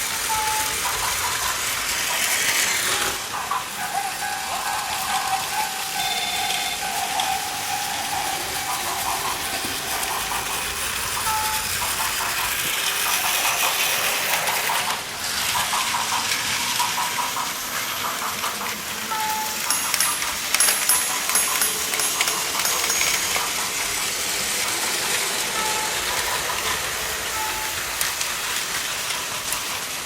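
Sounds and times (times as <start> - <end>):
toy train motors whirring: 0.0 - 30.0
wheels clicking over track joints: 0.0 - 30.0.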